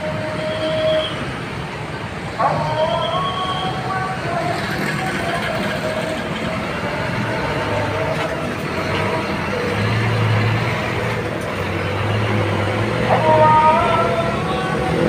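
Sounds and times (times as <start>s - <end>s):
bus engine droning: 0.0s - 15.0s
road noise: 0.0s - 15.0s.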